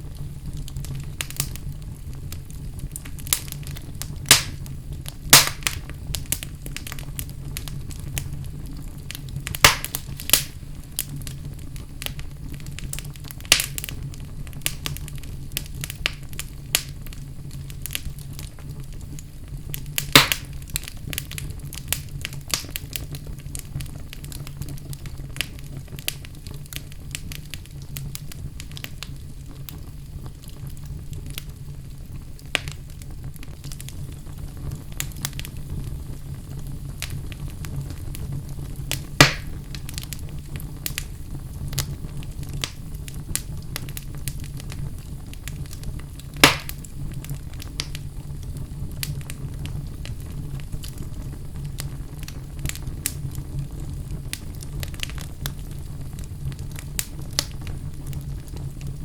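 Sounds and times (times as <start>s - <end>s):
fire crackling: 0.0s - 59.0s
fire flames rumbling: 0.0s - 59.0s
sharp fire pops: 0.0s - 59.0s.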